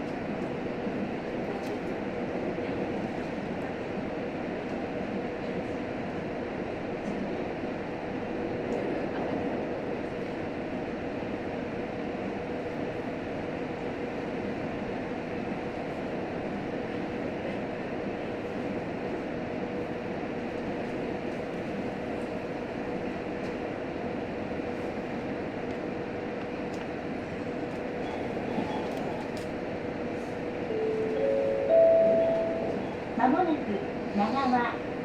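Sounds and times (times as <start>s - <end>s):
railcar rumble from inside cabin: 0.0s - 35.0s.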